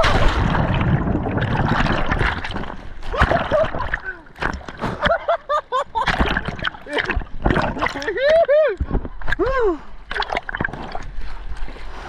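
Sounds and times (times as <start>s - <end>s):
seawater splashing and gurgling: 0.0s - 12.0s.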